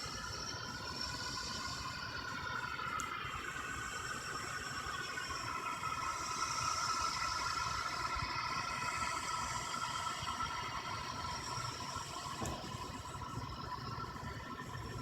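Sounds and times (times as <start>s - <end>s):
droning noise from the sky: 0.0s - 15.0s.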